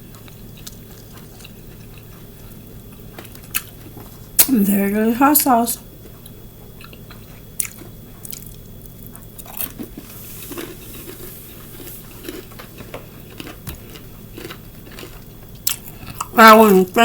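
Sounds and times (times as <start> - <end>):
crunchy chewing: 0.0 - 4.5, 5.9 - 17.0.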